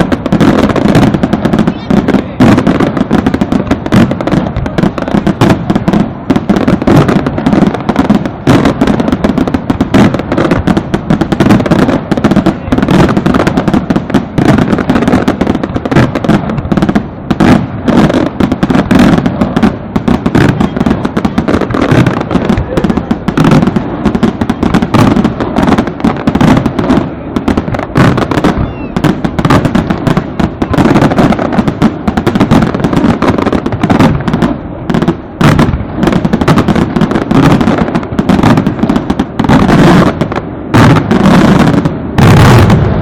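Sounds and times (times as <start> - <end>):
fireworks bangs and crackle: 0.0 - 43.0.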